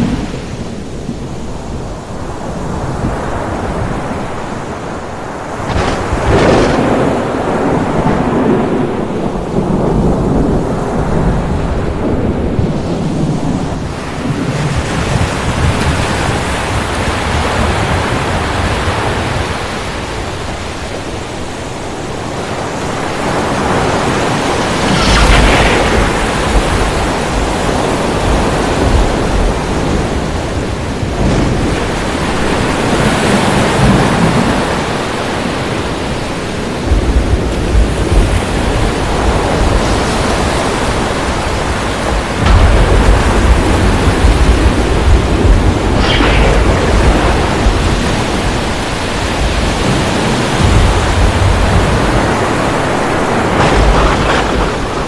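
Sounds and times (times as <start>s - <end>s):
heavy rain: 0.0s - 55.0s
thunder rumbling: 0.0s - 55.0s.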